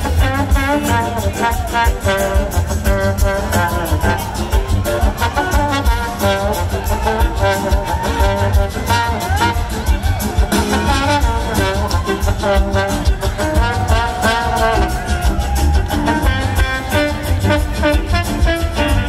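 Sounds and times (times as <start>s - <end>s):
bass: 0.0s - 19.0s
trombone solo sliding notes: 0.0s - 19.0s.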